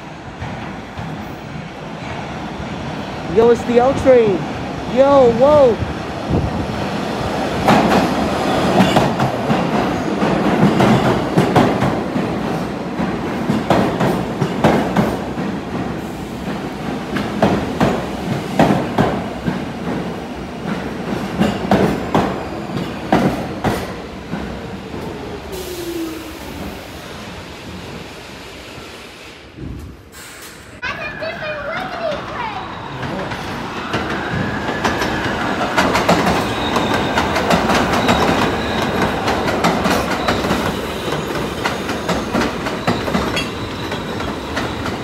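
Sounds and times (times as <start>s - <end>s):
subway train wheels clacking: 0.0s - 45.0s.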